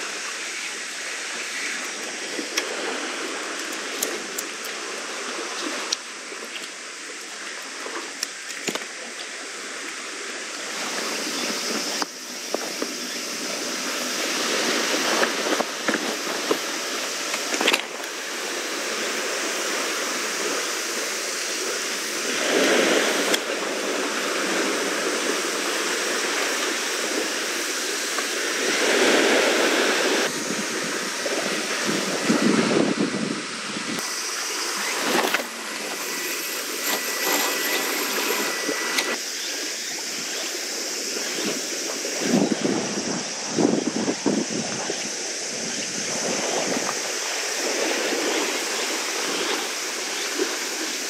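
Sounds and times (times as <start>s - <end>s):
sea water rushing: 0.0s - 51.0s
seaside wind: 0.0s - 51.0s.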